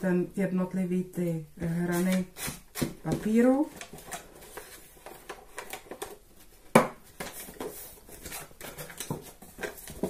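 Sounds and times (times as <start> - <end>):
paper rustling: 1.9 - 10.0.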